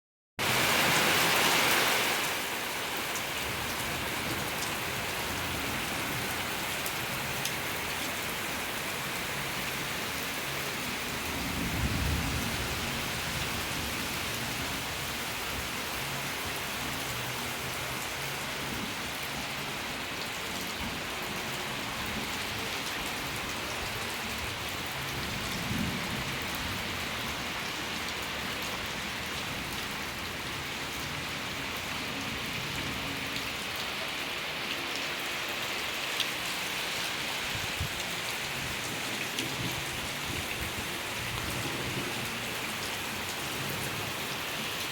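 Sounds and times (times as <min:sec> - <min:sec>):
heavy rain pattering: 0:00.4 - 0:44.9.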